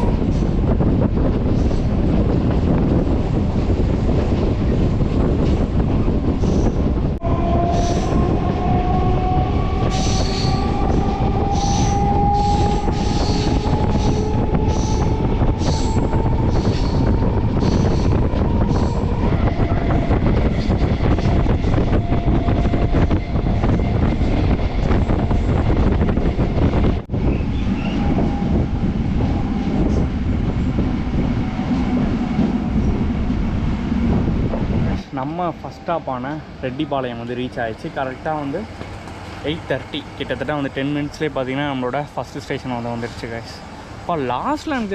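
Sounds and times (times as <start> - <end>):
electric train rumble: 0.0 - 44.9.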